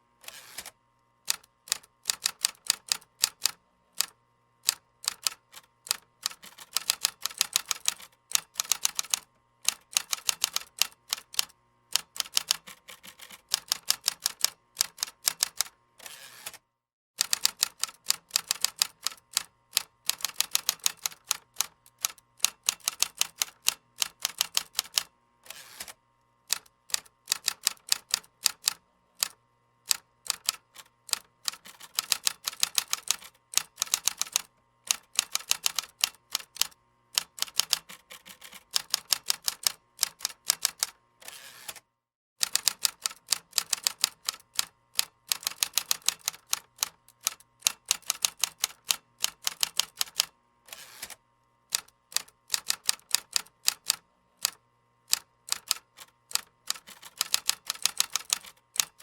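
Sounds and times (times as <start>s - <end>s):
typing on computer keyboard: 1.3s - 15.8s, 17.2s - 25.1s, 25.8s - 41.0s, 42.4s - 59.0s.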